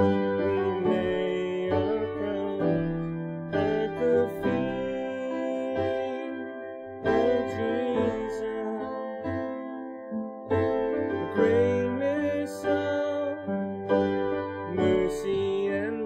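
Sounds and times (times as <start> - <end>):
keyboard chords: 0.0 - 16.0.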